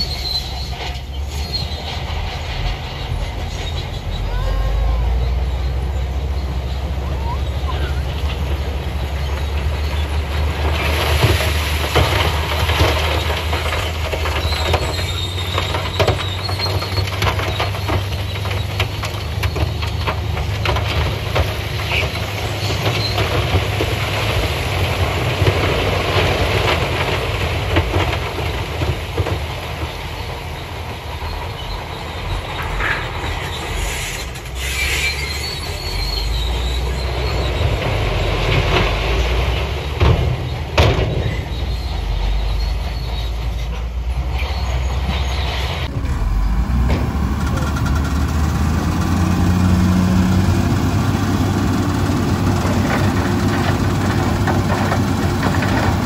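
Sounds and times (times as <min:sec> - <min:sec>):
diesel truck engine running: 0:00.0 - 0:56.0
rocks scraping and tumbling: 0:08.1 - 0:43.7, 0:44.4 - 0:56.0.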